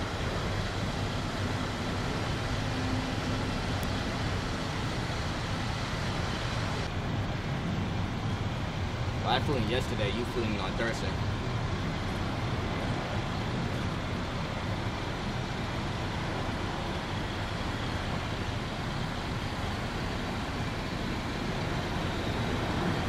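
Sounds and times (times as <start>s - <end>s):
engines rumbling: 0.0s - 23.0s
traffic noise: 0.0s - 23.0s.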